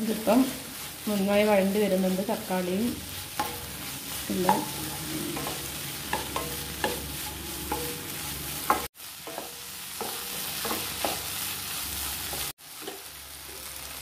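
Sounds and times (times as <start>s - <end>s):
wooden spatula scraping and stirring: 0.0s - 13.7s
food sizzling in butter: 0.0s - 14.0s.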